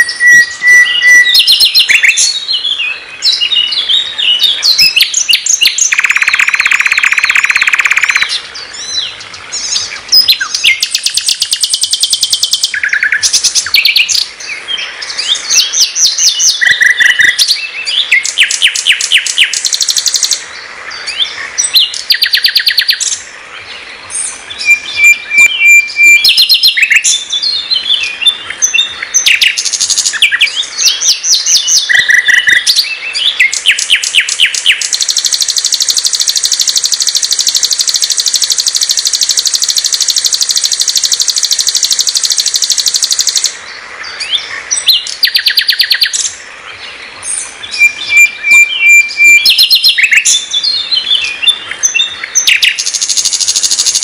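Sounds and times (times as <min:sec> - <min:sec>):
bird singing trills: 0:00.0 - 0:54.0.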